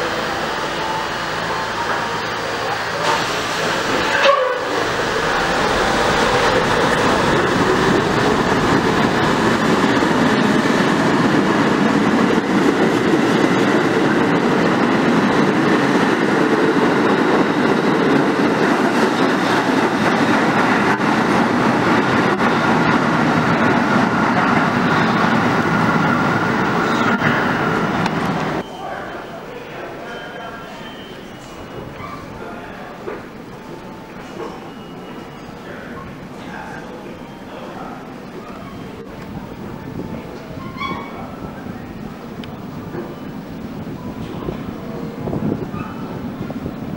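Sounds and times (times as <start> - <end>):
subway train running: 0.0 - 46.9.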